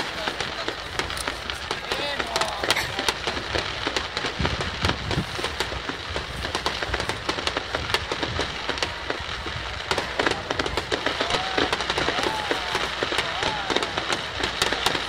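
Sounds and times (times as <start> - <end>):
deep fireworks booms: 0.0 - 15.0
fireworks bangs and crackles: 0.0 - 15.0.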